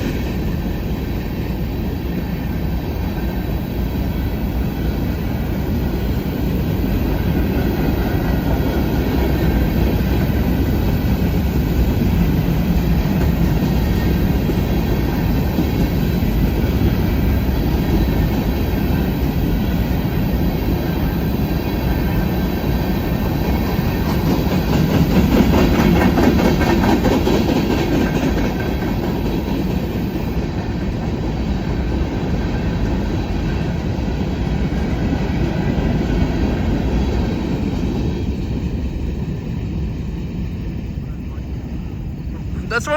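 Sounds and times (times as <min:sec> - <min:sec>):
clickety-clack over rail joints: 0:00.0 - 0:39.1
train wheels rumbling on rails: 0:00.0 - 0:42.9.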